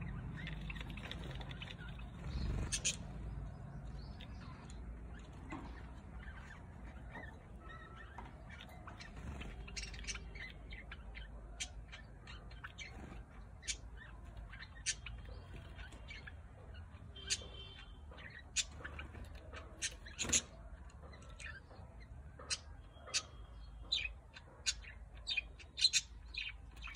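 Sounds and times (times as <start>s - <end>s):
budgerigars chirping: 0.0s - 26.9s.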